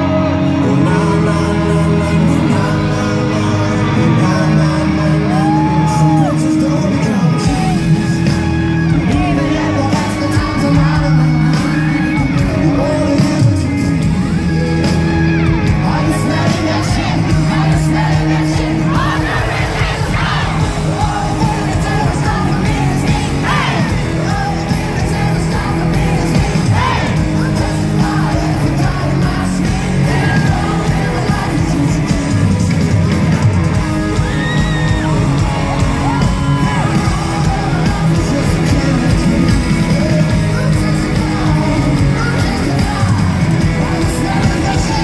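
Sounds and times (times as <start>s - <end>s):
person singing: 0.0s - 19.2s, 20.2s - 32.8s, 33.7s - 45.0s
crowd yelling: 0.0s - 45.0s
live rock band music: 0.0s - 45.0s.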